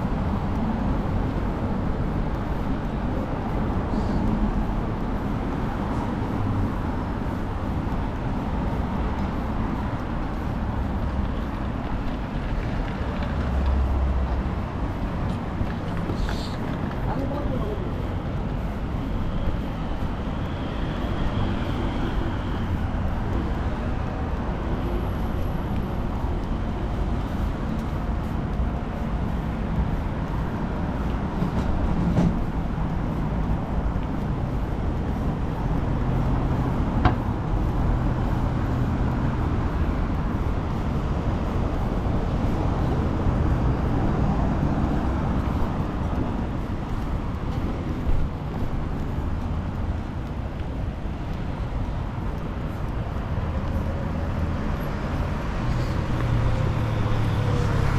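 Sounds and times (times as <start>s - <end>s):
passing motor vehicles: 0.0s - 57.9s.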